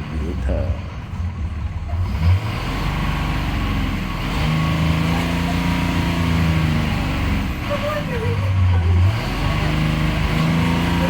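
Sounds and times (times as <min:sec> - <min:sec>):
diesel engine revving high: 0:00.0 - 0:11.0.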